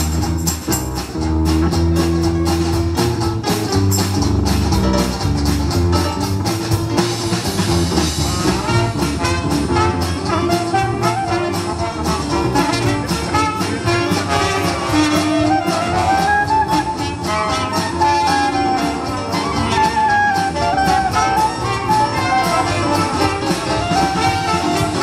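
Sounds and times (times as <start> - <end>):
dixieland jazz band playing: 0.0 - 25.0.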